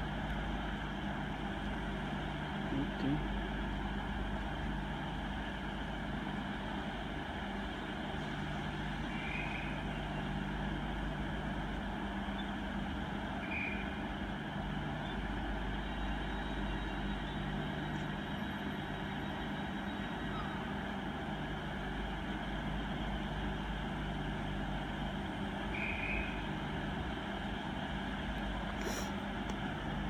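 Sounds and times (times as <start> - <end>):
diesel train engines idling: 0.0 - 30.0.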